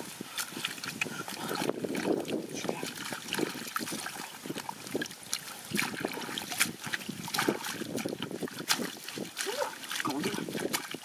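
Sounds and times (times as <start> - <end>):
hands squelching in mud puddle: 0.0 - 11.0
water sloshing and trickling: 0.0 - 11.0.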